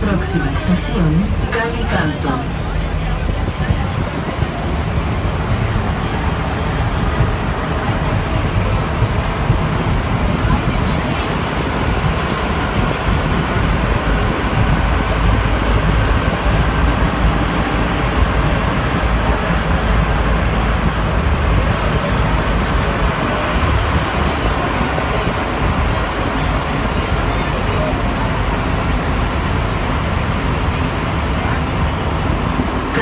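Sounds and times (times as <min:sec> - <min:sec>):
metro train rumbling in tunnel: 0:00.0 - 0:33.0.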